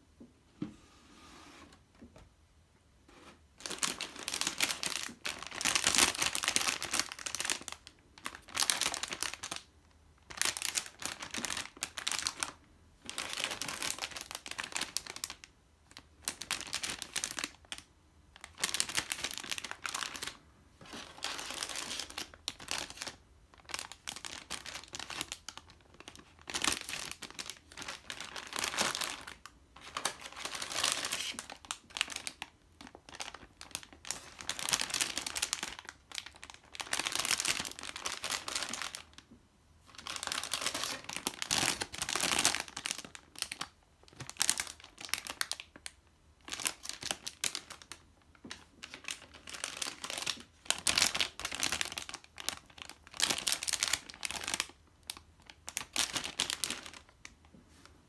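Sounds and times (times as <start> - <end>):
plastic bags crinkling: 3.6 - 39.2, 39.9 - 57.3.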